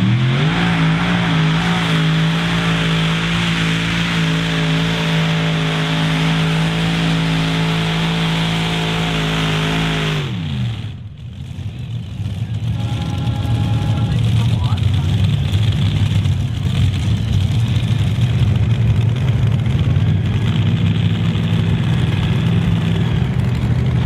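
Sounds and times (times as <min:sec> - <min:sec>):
pulling tractor engines roaring: 0:00.0 - 0:24.0.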